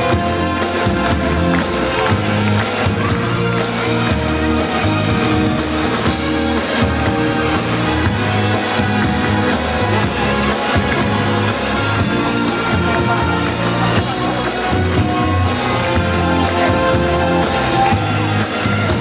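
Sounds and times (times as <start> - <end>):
bass line: 0.0 - 19.0
live pop band playing: 0.0 - 19.0.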